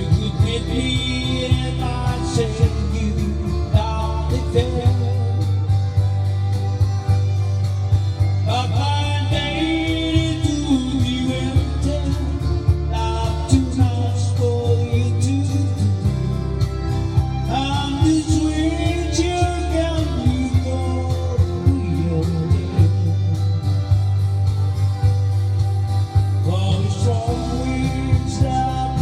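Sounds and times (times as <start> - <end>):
bass and beat: 0.0 - 29.0
guitar: 0.0 - 29.0
person singing country song: 0.0 - 29.0.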